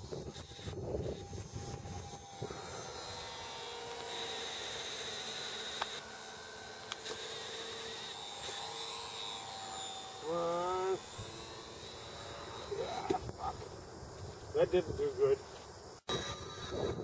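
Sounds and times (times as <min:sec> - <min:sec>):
model airplane engine buzzing: 0:00.0 - 0:15.4, 0:16.0 - 0:17.0.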